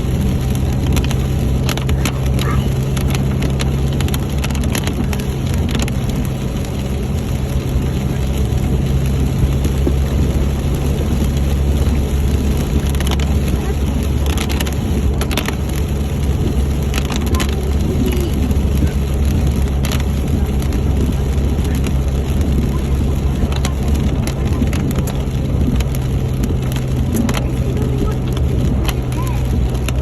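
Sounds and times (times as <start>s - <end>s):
vehicle engine and tyres droning: 0.0s - 30.0s.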